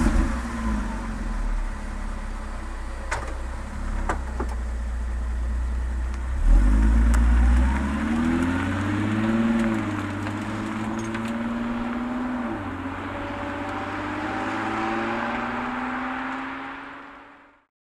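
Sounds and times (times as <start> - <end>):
car exhaust accelerating: 0.0 - 17.4.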